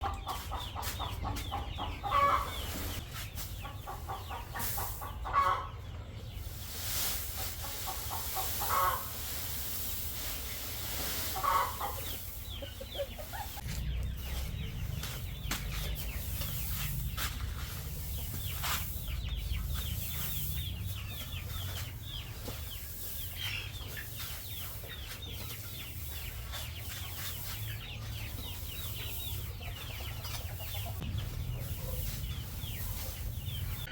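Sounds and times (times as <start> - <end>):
chicks peeping and chirping: 0.0 - 33.9.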